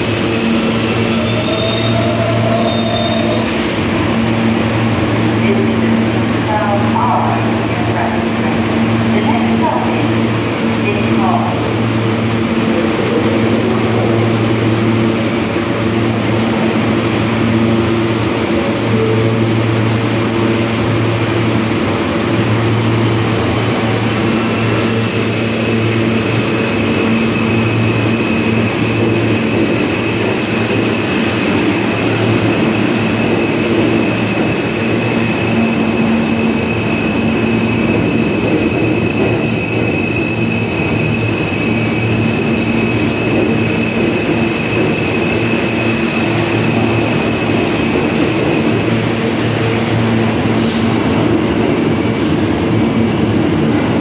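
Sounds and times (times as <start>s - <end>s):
subway train rumble and hum: 0.0s - 54.0s.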